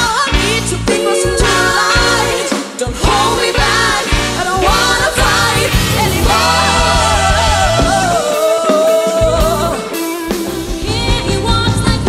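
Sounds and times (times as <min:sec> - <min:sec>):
live band playing: 0:00.0 - 0:12.0
women singing: 0:00.0 - 0:12.0.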